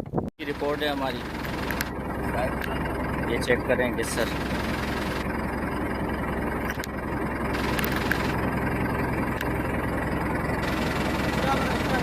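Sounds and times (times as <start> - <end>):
boat engine droning: 0.4 - 12.0.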